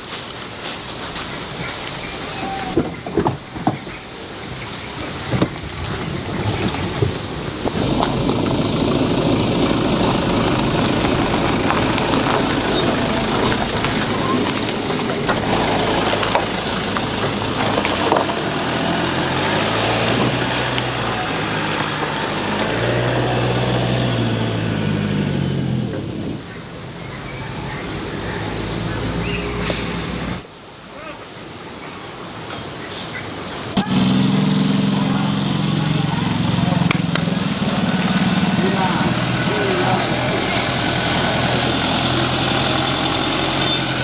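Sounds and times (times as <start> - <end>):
road noise: 0.0 - 44.0
low engine hum: 0.9 - 30.4, 33.8 - 44.0.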